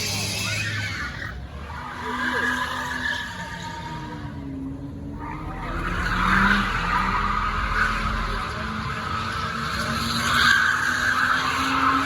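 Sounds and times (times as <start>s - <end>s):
car tires squealing: 0.0s - 12.0s
car engine revving: 1.9s - 12.0s.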